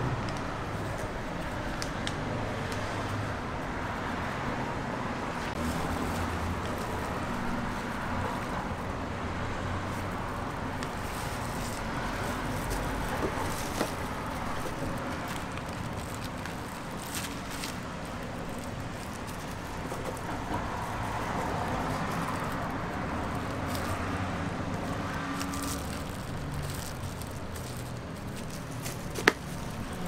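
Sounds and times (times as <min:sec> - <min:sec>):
passing traffic: 0:00.0 - 0:30.0.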